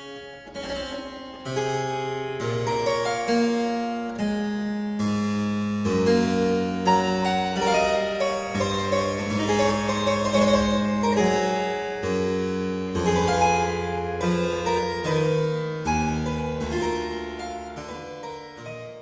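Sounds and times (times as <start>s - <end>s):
harpsichord playing: 0.0s - 19.0s.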